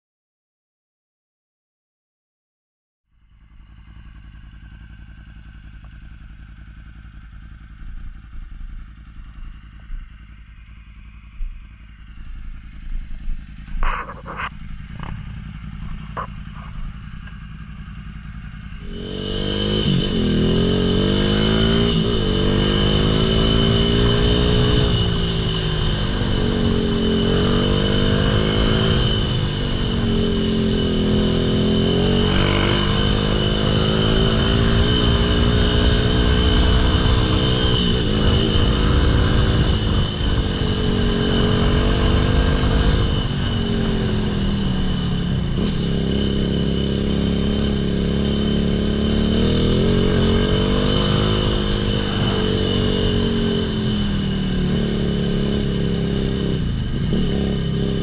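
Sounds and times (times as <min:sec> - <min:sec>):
motorcycle engine idling and revving: 0:03.1 - 0:58.0
steady high whine: 0:03.5 - 0:58.0.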